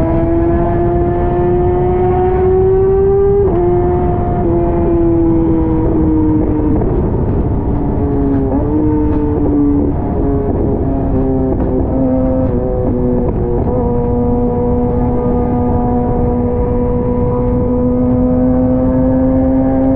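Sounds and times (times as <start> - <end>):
wind rushing: 0.0 - 19.8
motorcycle engine cruising: 0.0 - 19.9.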